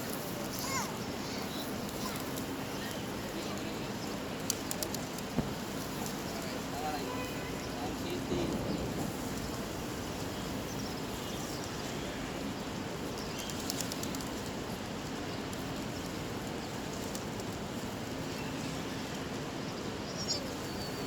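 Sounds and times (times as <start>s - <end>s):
flock of birds: 0.0s - 21.0s
outdoor background din: 0.0s - 21.0s.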